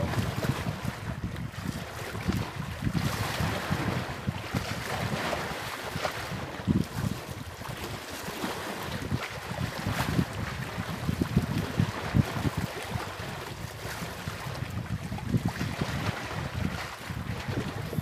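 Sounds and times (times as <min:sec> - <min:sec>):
waves washing: 0:00.0 - 0:14.8, 0:15.4 - 0:18.0
wind buffeting the microphone: 0:00.0 - 0:18.0.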